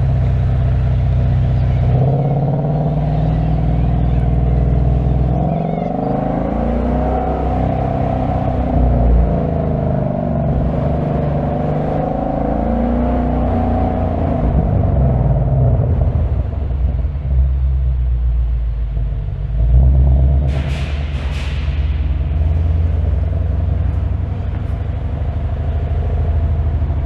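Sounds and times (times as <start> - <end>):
car exhaust rumble: 0.0 - 27.0.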